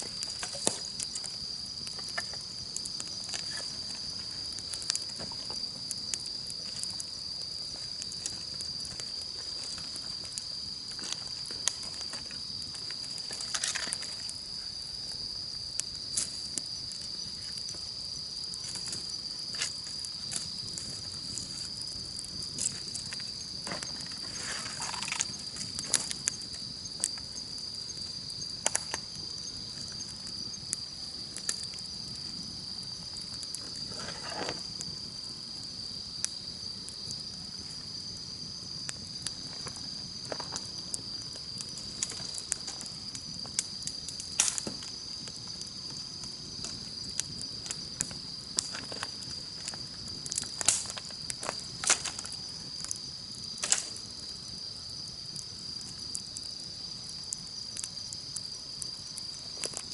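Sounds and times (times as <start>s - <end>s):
campfire crackling and popping: 0.0s - 59.9s
insects chirring: 0.0s - 59.9s.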